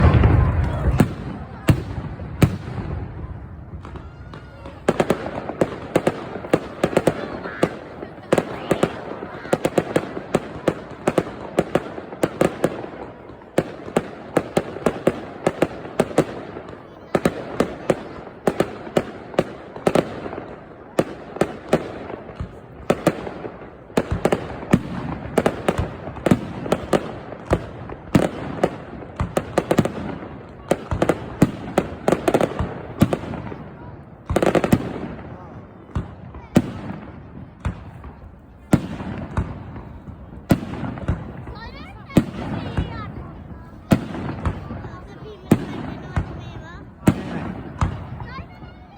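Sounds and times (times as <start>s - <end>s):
fireworks bangs and pops: 0.0s - 48.9s.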